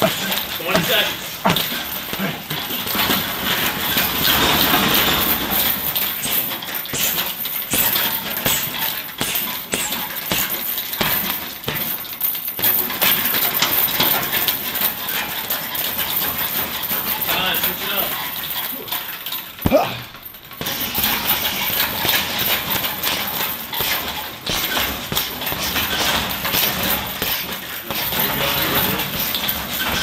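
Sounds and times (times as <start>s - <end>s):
strikes on punching bag: 0.0s - 17.3s, 18.4s - 30.0s
gym noise: 0.0s - 30.0s.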